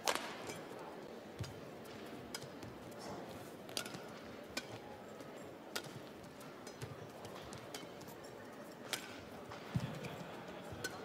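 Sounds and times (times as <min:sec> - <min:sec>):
rackets striking shuttlecock: 0:00.0 - 0:08.2, 0:08.8 - 0:11.0.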